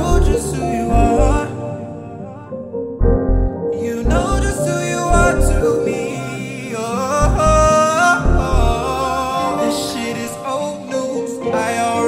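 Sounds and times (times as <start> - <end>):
song with singing over keys: 0.0 - 12.0.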